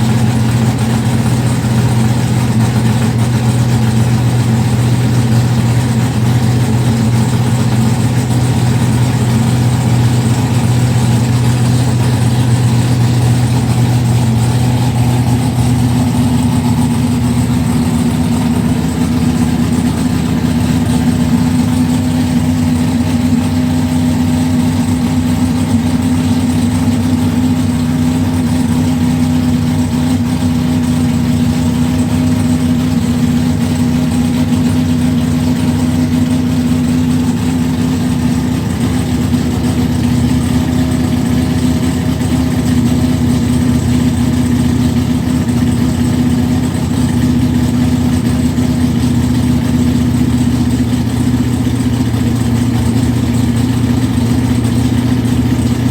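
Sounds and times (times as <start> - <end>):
car engine idling loudly: 0.0 - 55.9.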